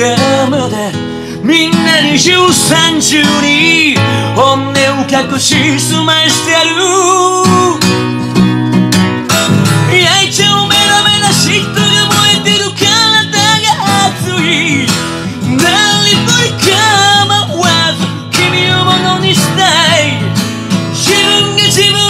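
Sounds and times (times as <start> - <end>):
man singing rock song: 0.0 - 8.2, 9.8 - 22.0
guitar backing track: 0.0 - 22.0.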